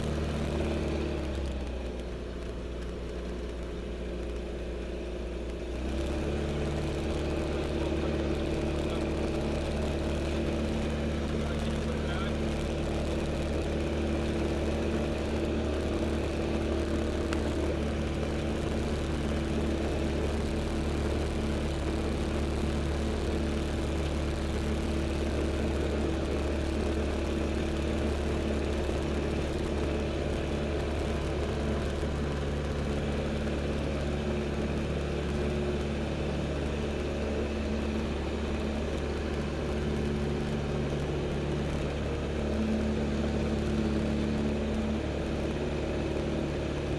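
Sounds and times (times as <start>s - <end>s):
propeller engine droning: 0.0s - 46.9s
air noise over canopy: 6.6s - 46.9s.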